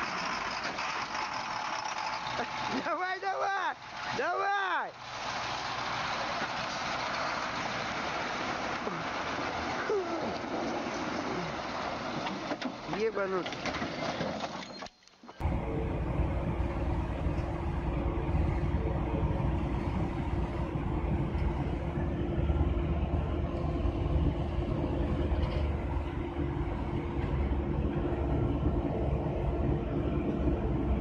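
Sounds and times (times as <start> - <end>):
truck engine rumble in cab: 0.0 - 2.9, 5.0 - 13.0, 15.4 - 31.0.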